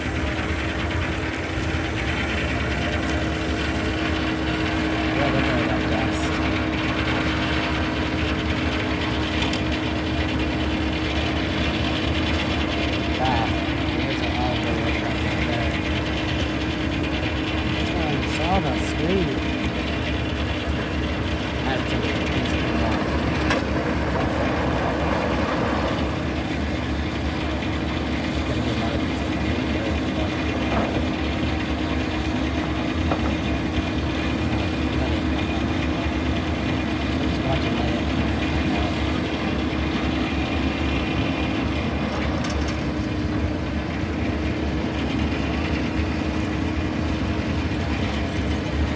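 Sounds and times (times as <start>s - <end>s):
steam traction engine running: 0.0s - 48.9s.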